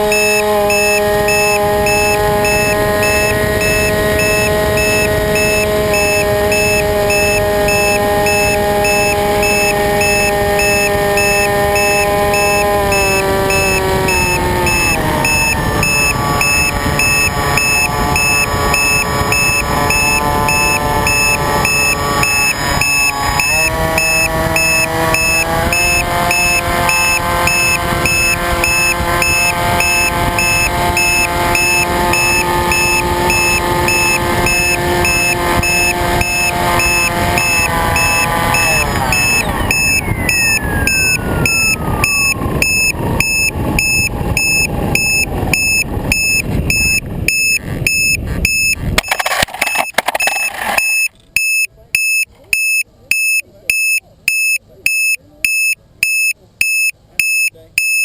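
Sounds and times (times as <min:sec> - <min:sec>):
model airplane motor: 0:00.0 - 0:51.2.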